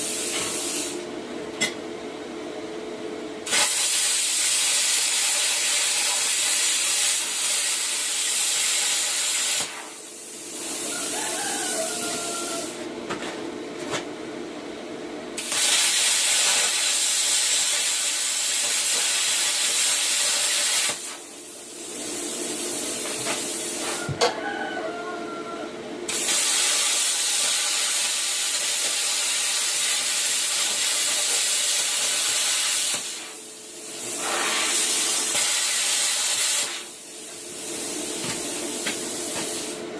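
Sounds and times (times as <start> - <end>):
plasma cutter hissing: 0.0 - 1.0, 3.4 - 12.8, 15.4 - 24.0, 26.1 - 39.8.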